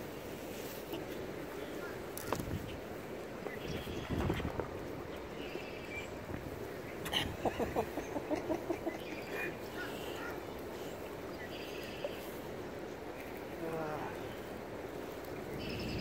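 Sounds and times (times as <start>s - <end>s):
outdoor background noise: 0.0s - 16.0s
small birds chirping: 0.8s - 16.0s.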